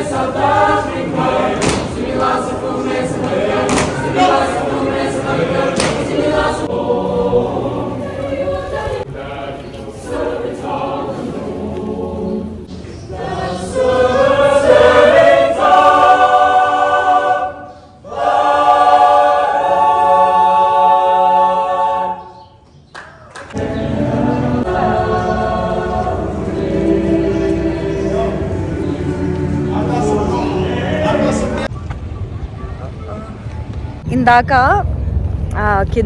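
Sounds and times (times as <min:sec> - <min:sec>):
choir of young voices singing: 0:00.0 - 0:22.6, 0:23.5 - 0:31.7.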